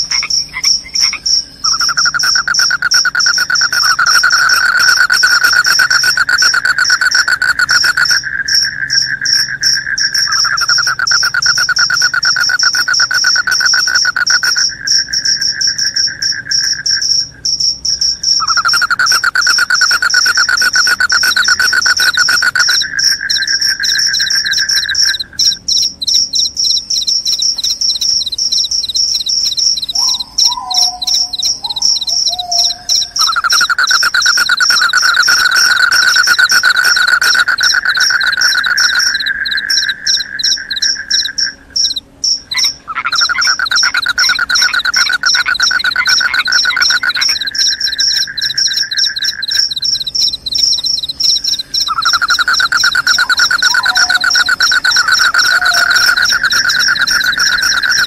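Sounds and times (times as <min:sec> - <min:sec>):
crickets high trill: 0:00.0 - 0:58.0
crickets lower trill: 0:00.0 - 0:58.0.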